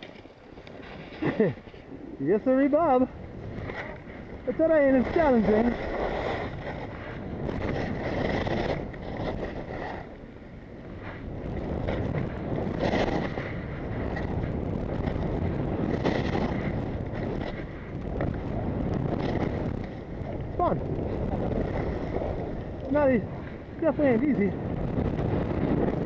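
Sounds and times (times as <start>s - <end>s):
skis scraping over snow: 0.0s - 26.0s
wind on microphone: 0.0s - 26.0s.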